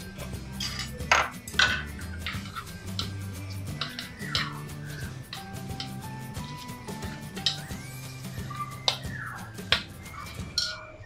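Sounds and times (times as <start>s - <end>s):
background music: 0.0s - 11.0s
utensils clinking and scraping wok: 0.0s - 11.0s.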